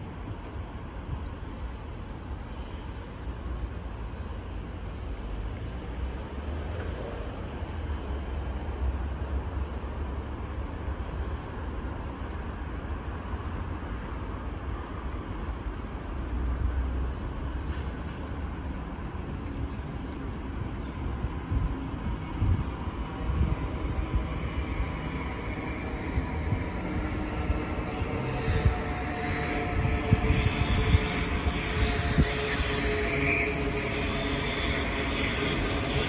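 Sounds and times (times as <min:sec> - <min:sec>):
electric train rumbling: 0:00.0 - 0:36.0.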